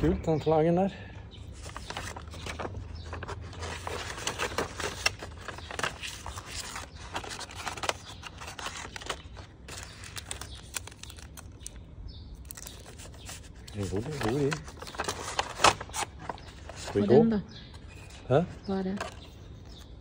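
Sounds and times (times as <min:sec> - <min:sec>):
paper packaging rustling: 0:01.6 - 0:11.8, 0:12.4 - 0:20.0.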